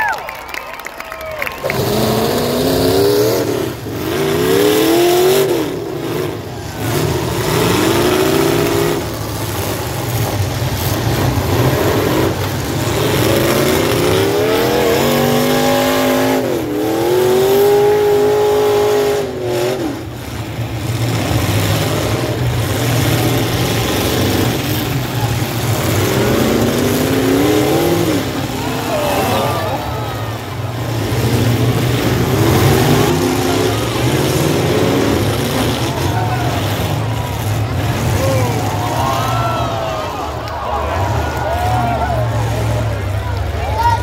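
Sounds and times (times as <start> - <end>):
car engines revving: 0.0 - 44.0
engine rumble: 0.0 - 44.0.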